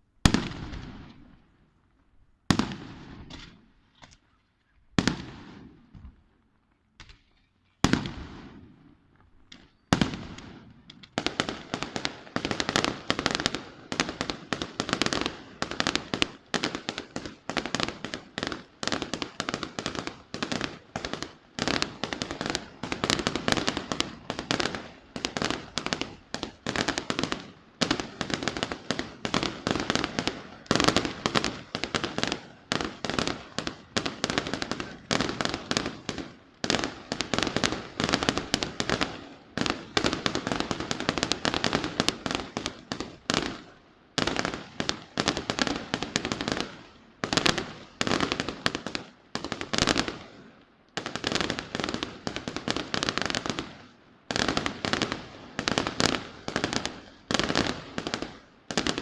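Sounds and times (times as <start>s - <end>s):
fireworks bangs and crackles: 0.0s - 1.6s, 2.5s - 4.1s, 4.9s - 6.4s, 7.0s - 59.0s.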